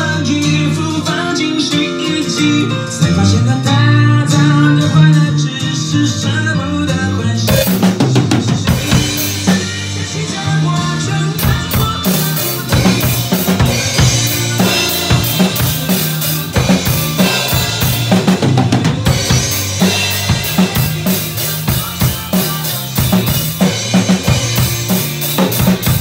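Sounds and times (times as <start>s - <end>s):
backing track with bass line: 0.0s - 26.0s
drum kit playing: 1.0s - 6.1s, 6.9s - 26.0s.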